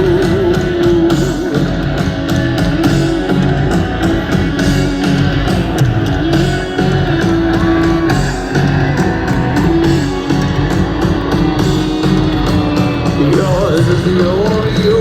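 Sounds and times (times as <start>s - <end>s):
bass guitar: 0.0s - 15.0s
drum kit: 0.0s - 15.0s
electric guitar sustained notes: 0.0s - 15.0s.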